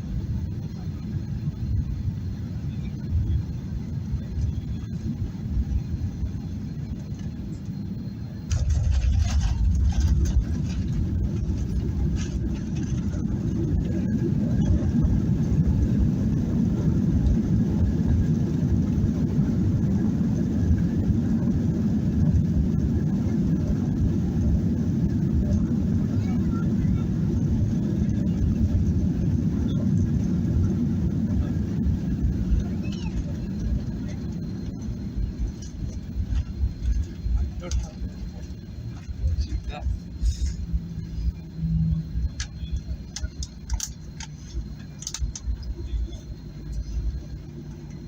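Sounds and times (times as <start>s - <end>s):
aircraft cabin rumble: 0.0s - 48.0s.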